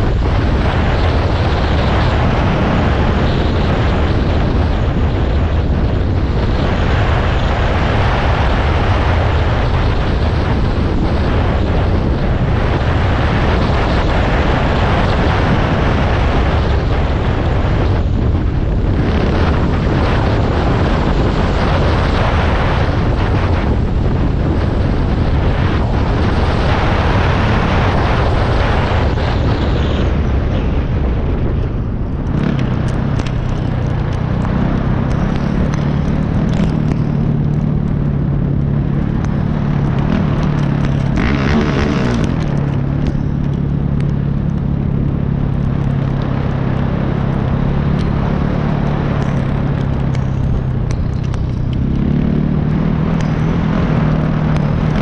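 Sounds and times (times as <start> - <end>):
motorcycle engine: 0.0 - 55.0
wind rush on microphone: 0.0 - 55.0.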